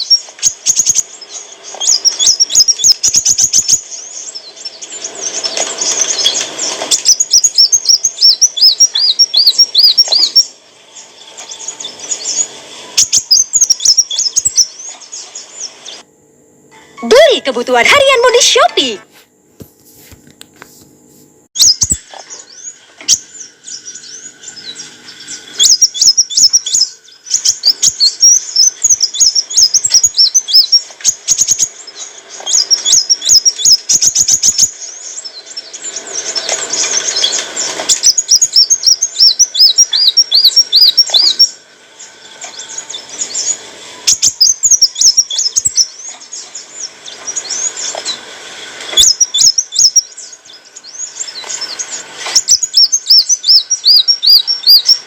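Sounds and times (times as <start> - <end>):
bird twittering and trilling: 0.0 - 16.1, 21.6 - 55.0.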